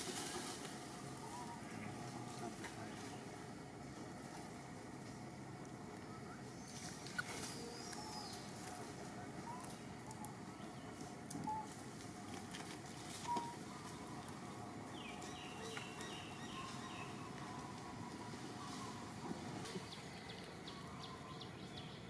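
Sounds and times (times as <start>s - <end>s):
birds chirping: 0.9s - 22.0s.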